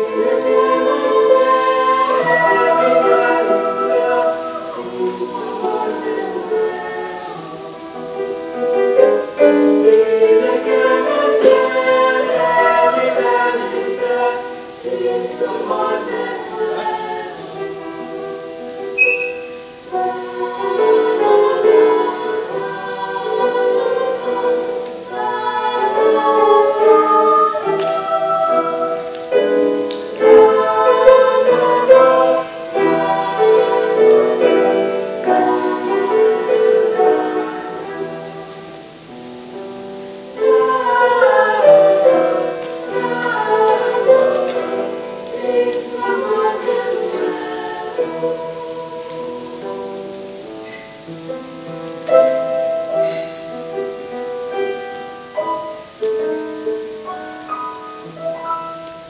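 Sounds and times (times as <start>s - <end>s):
choir singing in harmony: 0.0s - 59.0s.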